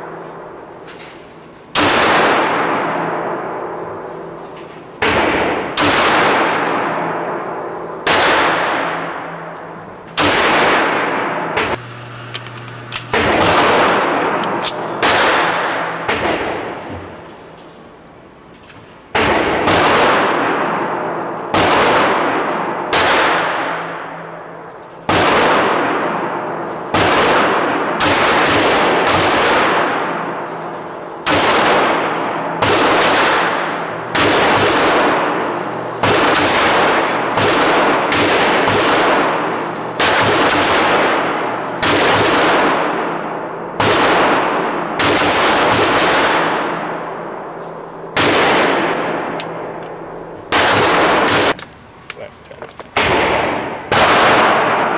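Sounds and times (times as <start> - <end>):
pistol shots echoing indoors: 0.0 - 11.8, 12.7 - 18.4, 19.0 - 51.6, 53.0 - 54.9.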